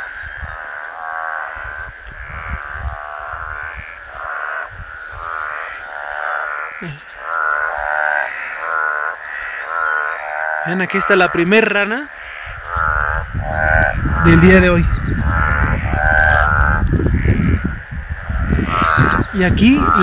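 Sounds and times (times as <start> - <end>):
treefrogs chorus: 0.0 - 20.0.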